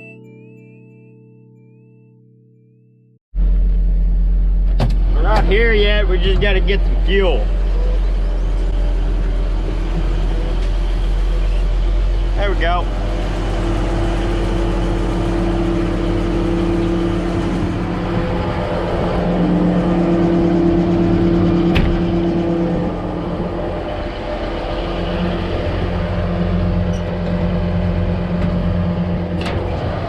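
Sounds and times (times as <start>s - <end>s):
tractor diesel engine running: 3.4s - 30.0s.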